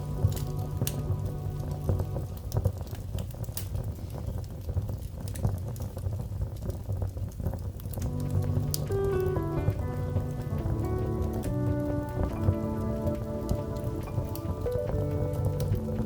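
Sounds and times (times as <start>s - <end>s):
low rumble: 0.0s - 5.0s, 7.7s - 16.0s
sharp pops of fire: 0.0s - 16.0s
wood fire crackling: 0.0s - 16.0s.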